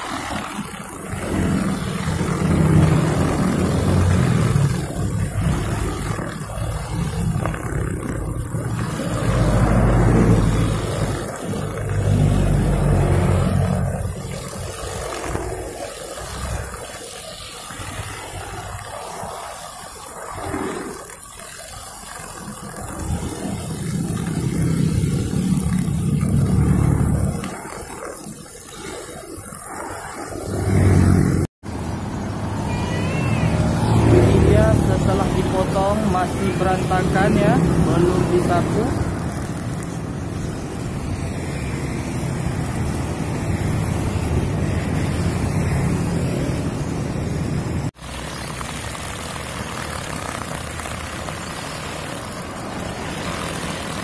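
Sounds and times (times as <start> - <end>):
string trimmer cutting grass: 0.0 - 54.0.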